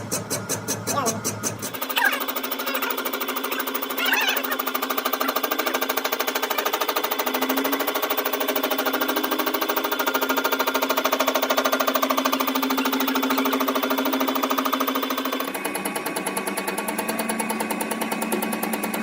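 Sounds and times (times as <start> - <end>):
power tool rattling: 0.0 - 19.0.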